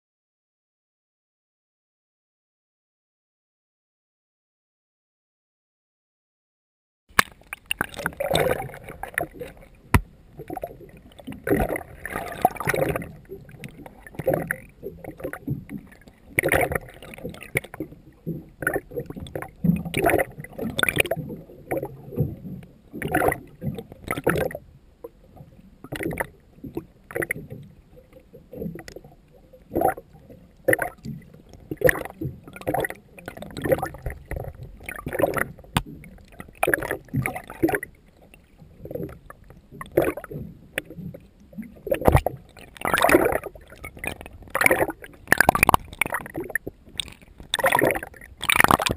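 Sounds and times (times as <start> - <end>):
water sloshing and gurgling: 7.1 - 48.9.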